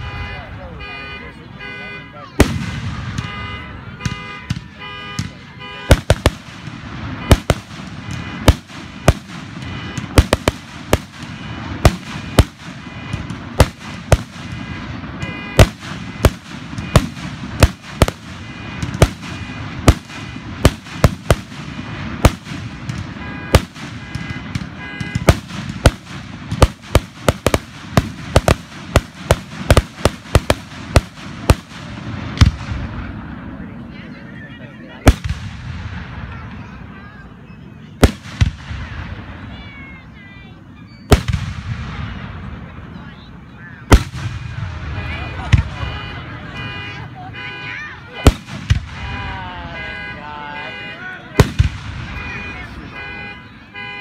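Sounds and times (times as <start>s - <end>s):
fireworks bursting with sharp bangs: 0.0s - 34.3s, 34.9s - 54.0s.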